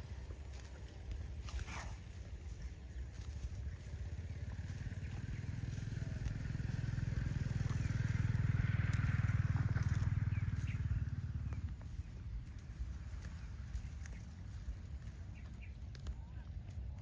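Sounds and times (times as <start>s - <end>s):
small engine pulsing: 0.0s - 17.0s.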